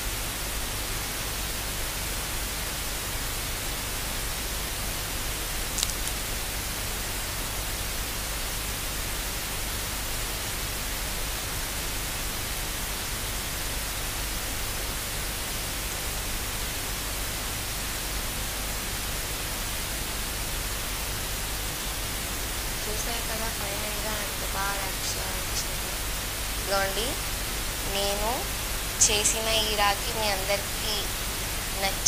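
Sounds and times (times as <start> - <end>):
recording hiss: 0.0 - 32.0.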